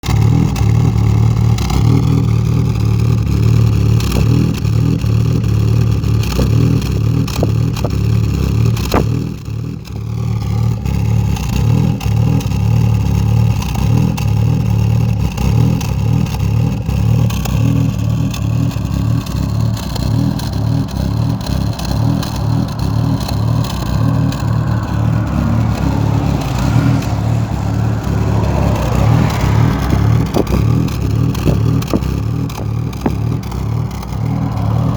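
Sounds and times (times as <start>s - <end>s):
loud engine exhaust rattling: 0.0s - 34.9s.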